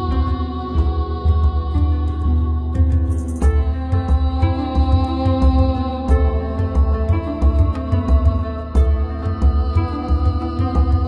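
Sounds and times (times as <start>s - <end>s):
background music with sustained tones: 0.0s - 11.0s.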